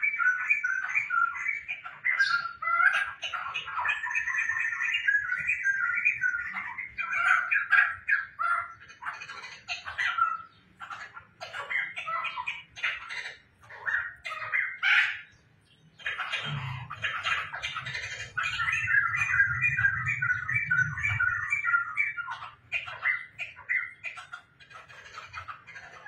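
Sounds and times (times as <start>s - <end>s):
bird chattering and squawking: 0.0s - 26.0s.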